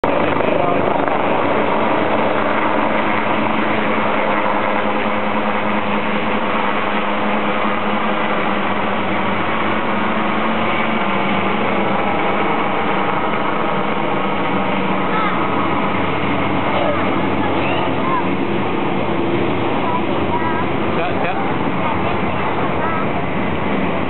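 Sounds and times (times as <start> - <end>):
helicopter rotor and engine drone: 0.0 - 24.0
steady hum: 0.0 - 24.0.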